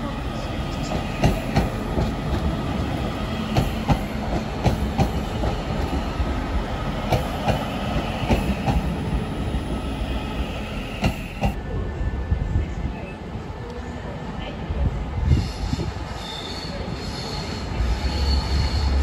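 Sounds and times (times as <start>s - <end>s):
train rolling rumble: 0.0s - 19.0s.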